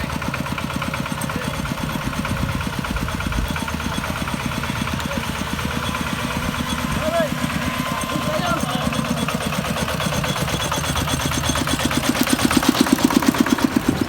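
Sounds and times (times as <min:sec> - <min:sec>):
diesel engine running: 0:00.0 - 0:14.0
machine clatter: 0:00.0 - 0:14.0.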